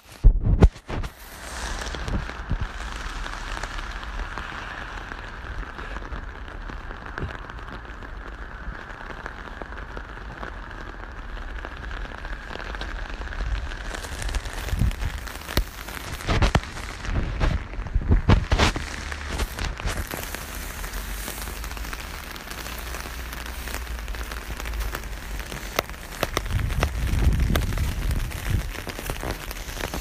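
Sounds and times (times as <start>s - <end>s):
heavy rain on umbrella: 0.0s - 30.0s
rain splashing into puddles: 1.0s - 30.0s.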